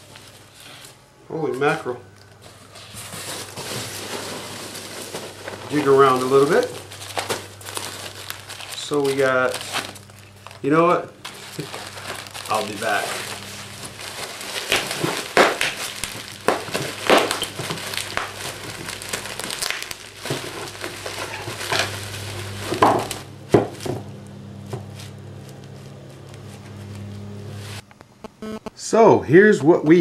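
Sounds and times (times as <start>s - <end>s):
low steady hum: 0.0s - 30.0s
bubble wrap crackling: 2.1s - 27.8s.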